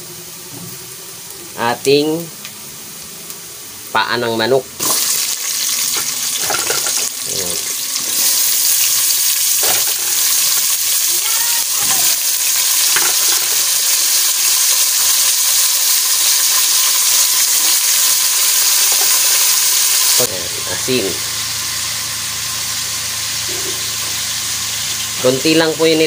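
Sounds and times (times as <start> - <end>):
chicken feet sizzling in hot oil: 4.8 - 26.0.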